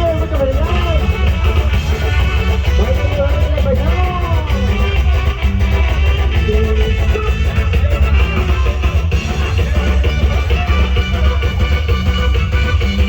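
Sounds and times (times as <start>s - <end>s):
dance music with bass and guitar: 0.0s - 13.0s.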